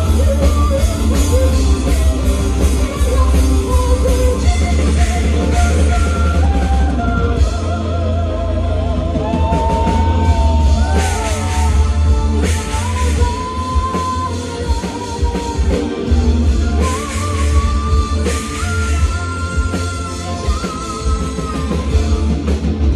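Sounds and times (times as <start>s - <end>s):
woman singing with vibrato: 0.0s - 22.4s
distorted electric guitars: 0.0s - 22.9s
drums: 0.0s - 22.9s.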